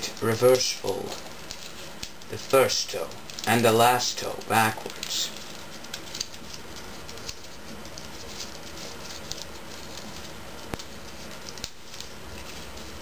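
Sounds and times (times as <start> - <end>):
background hiss: 0.0 - 13.0
paper rustling and crinkling: 0.0 - 13.0.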